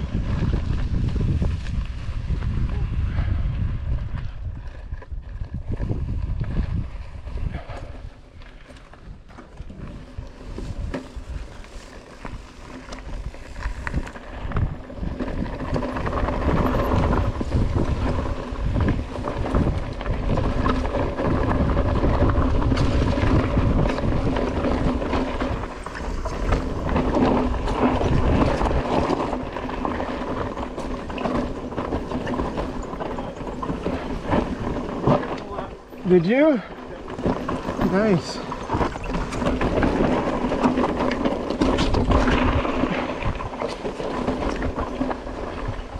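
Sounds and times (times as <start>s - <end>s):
bike rattling and knocking: 0.0s - 45.9s
bike tyres rolling over rock: 0.0s - 45.9s
wind rumble on microphone: 0.0s - 45.9s.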